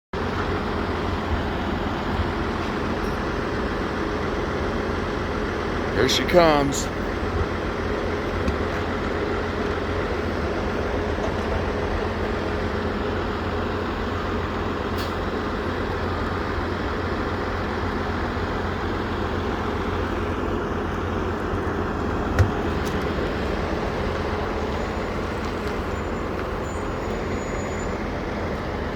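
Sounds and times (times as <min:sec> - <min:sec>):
motor vehicle rumbling: 0:00.2 - 0:28.9.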